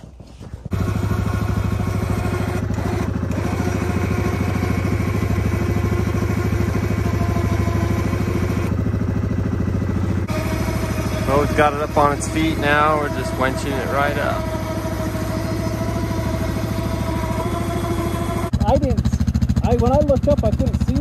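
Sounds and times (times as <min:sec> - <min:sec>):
atv engine idling: 0:00.6 - 0:21.0.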